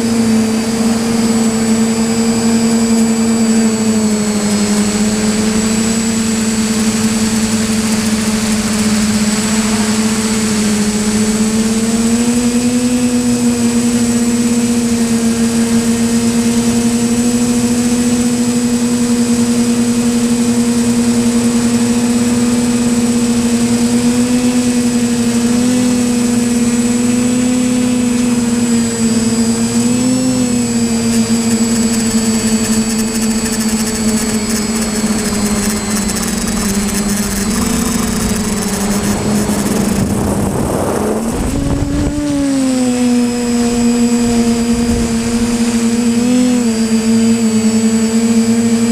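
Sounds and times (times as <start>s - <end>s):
drone rotors humming: 0.0s - 48.9s.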